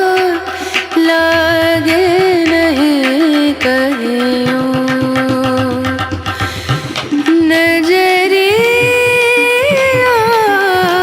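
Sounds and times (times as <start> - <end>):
percussion: 0.0 - 11.0.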